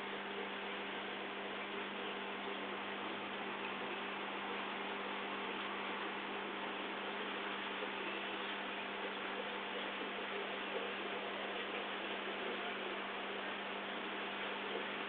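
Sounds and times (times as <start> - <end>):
constant hiss: 0.0 - 15.0
electrical hum: 0.0 - 15.0.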